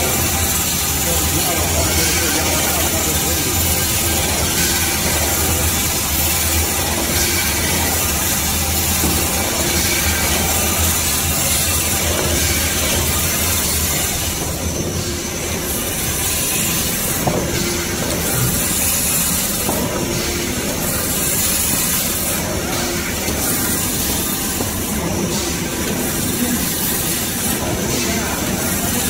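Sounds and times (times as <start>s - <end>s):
band saw machine running: 0.0s - 29.0s.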